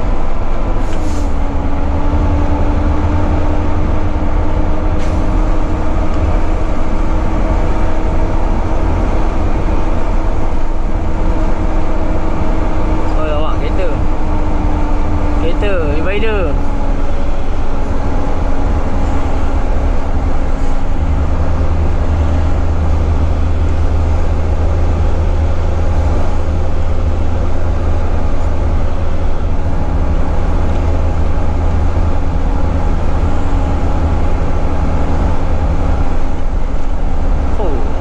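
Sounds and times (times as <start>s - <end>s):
truck diesel engine droning: 0.0s - 38.0s.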